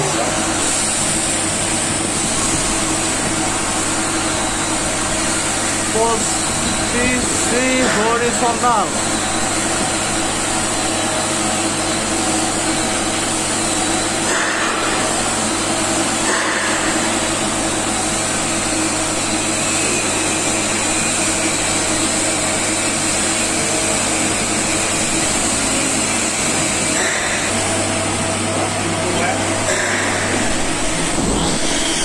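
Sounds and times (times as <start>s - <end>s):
welding torch hissing: 0.0s - 27.9s, 29.6s - 32.0s
constant electrical hum: 0.0s - 32.0s.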